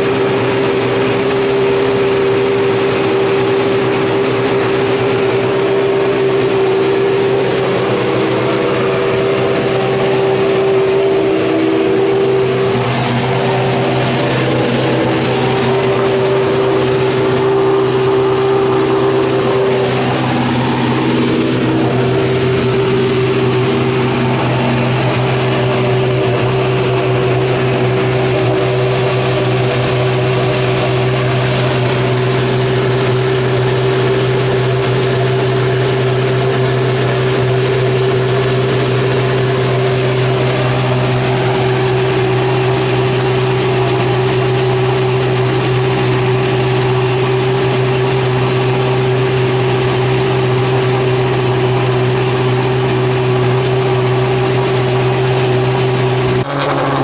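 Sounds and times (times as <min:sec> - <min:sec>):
racing car engine idling: 0:00.0 - 0:57.0.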